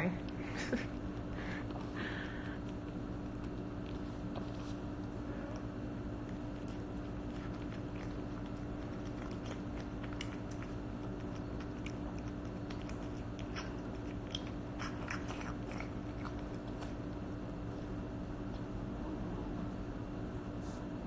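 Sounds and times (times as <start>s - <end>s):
low hum: 0.0s - 21.0s
cat chewing wet food: 0.2s - 18.7s.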